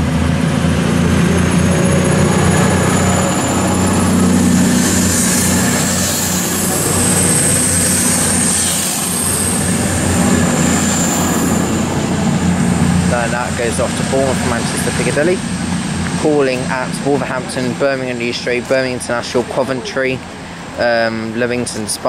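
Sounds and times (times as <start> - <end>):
high whine: 0.0 - 21.6
diesel train engine drone: 0.0 - 22.0.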